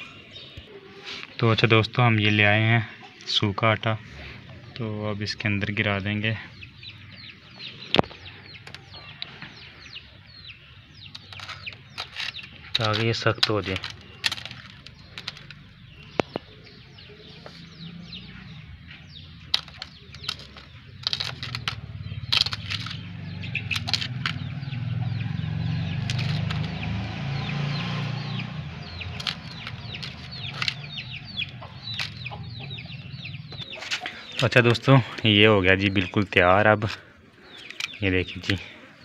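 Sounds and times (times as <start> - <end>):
chickens calling: 0.0 - 39.0.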